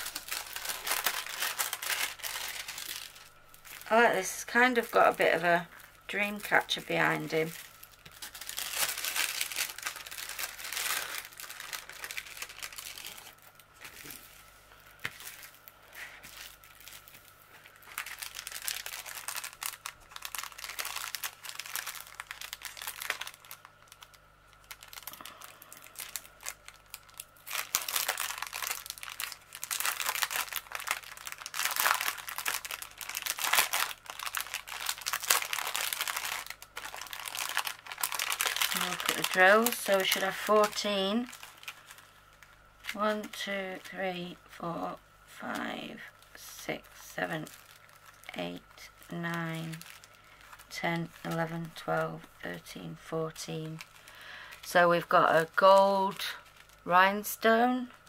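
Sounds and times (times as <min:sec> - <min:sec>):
plastic packaging crinkling: 0:00.0 - 0:58.0.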